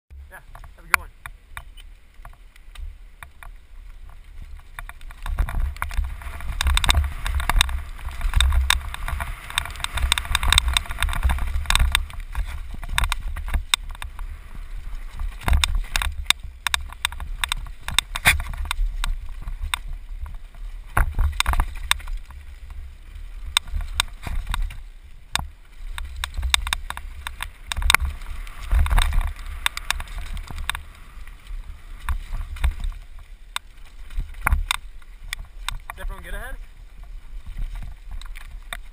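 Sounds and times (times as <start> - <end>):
bike rattling over bumps: 0.1 - 38.9
tyres on dirt and stones: 0.1 - 38.9
wind rumbling on microphone: 0.1 - 38.9.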